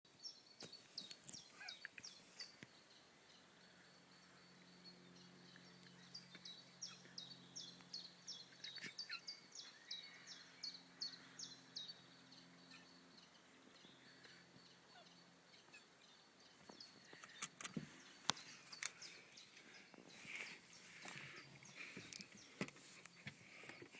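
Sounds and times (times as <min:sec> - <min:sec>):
small bird chirping: 0:00.2 - 0:23.9.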